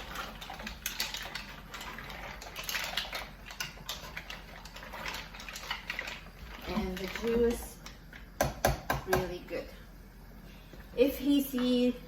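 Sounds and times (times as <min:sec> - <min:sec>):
pot simmering: 0:00.0 - 0:12.0.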